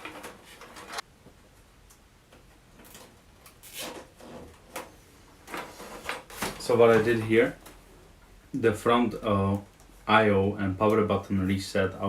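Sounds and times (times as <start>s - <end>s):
cables rustling and clicking: 0.0s - 11.2s.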